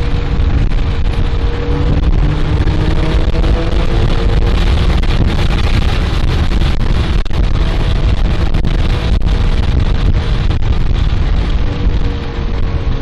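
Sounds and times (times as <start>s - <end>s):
car engine rumble: 0.0s - 13.0s
wind buffeting microphone: 0.0s - 13.0s.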